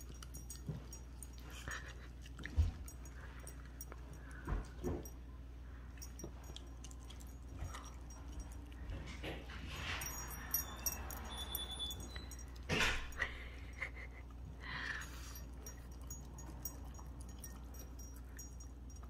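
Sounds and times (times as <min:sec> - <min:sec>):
puppy licking and chewing: 0:00.0 - 0:05.2, 0:05.8 - 0:19.0.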